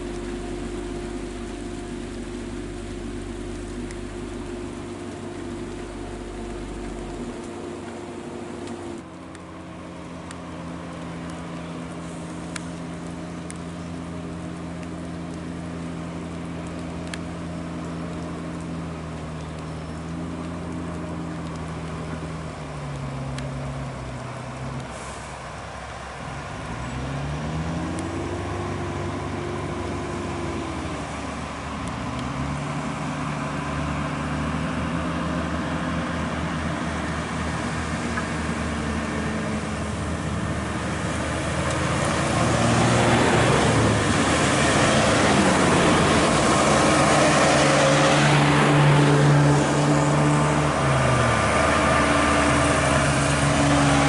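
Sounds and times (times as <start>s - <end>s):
truck diesel engine pulling: 0.0s - 54.0s.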